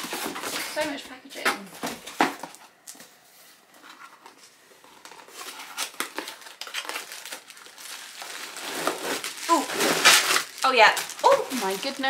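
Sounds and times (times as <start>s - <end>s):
cardboard and paper crinkling: 0.0s - 12.0s.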